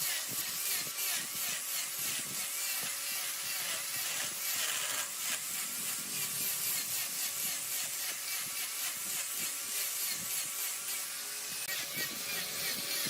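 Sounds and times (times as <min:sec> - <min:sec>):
cutting tool scraping wood: 0:00.0 - 0:13.0
wood lathe turning: 0:00.0 - 0:13.0.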